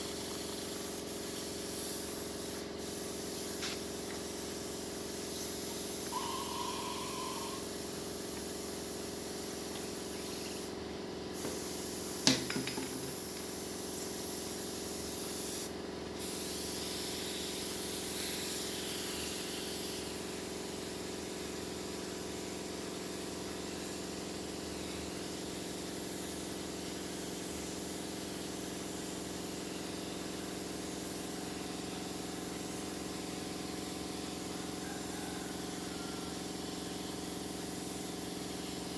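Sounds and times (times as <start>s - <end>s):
spray gun hissing: 0.0s - 34.8s, 35.5s - 38.9s.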